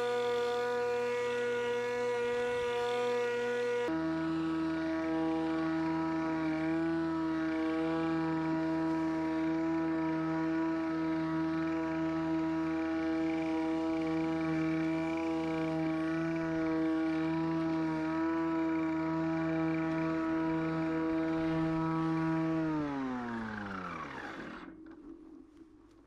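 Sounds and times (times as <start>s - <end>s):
electric lawnmower whine: 0.0s - 26.0s.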